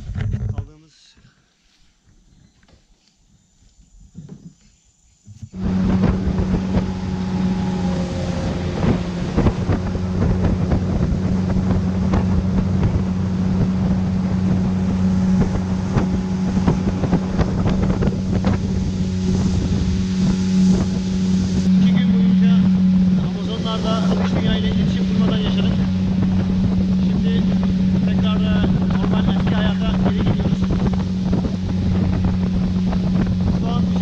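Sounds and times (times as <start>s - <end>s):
outboard motor running: 5.3s - 34.0s
wind buffeting microphone: 5.3s - 34.0s.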